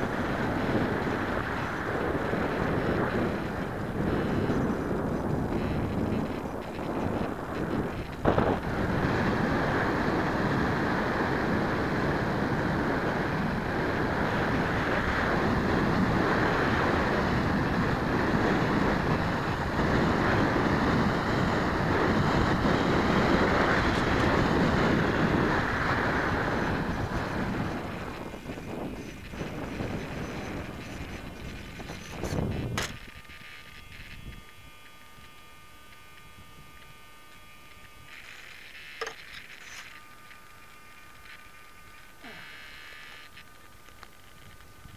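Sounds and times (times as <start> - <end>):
wind rushing over microphone: 0.0 - 40.6.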